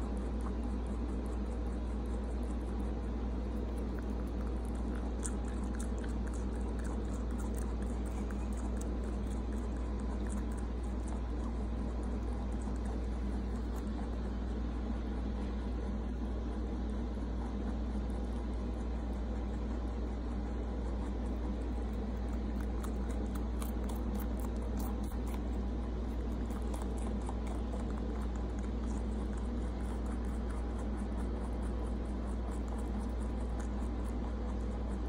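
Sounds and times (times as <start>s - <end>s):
rabbit chewing crunchily: 0.0s - 35.0s
steady low hum: 0.0s - 35.0s.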